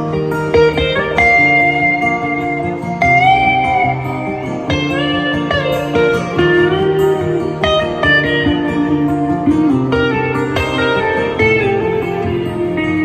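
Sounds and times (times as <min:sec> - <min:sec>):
guitar accompaniment: 0:00.0 - 0:13.0
lead guitar bending notes: 0:00.0 - 0:13.0.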